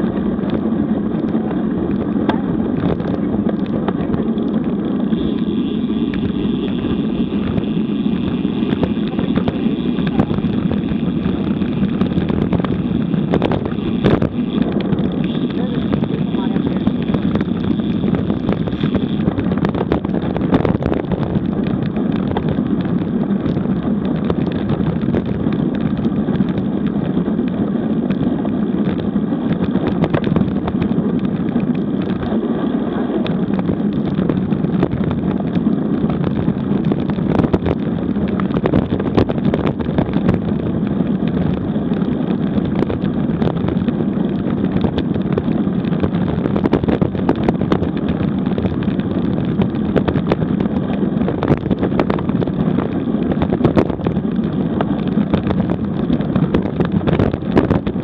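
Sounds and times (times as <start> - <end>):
bike tyre rumble and knocks: 0.0 - 58.0
wind buffeting microphone: 0.0 - 58.0.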